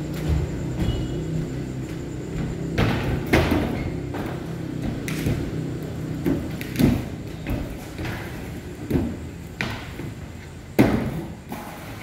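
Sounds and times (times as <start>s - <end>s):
skateboard clacks and thuds: 0.0s - 12.0s
skateboard wheels rolling on concrete: 0.0s - 12.0s.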